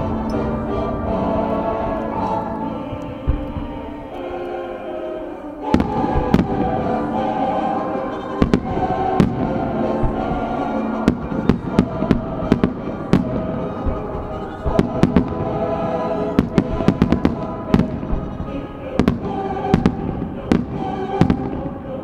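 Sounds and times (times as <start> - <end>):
music playing: 0.0 - 22.0.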